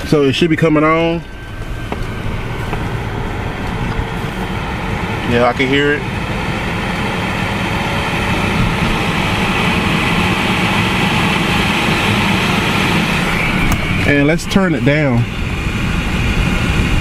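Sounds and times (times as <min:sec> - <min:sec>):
blower fan rushing air: 0:00.0 - 0:17.0.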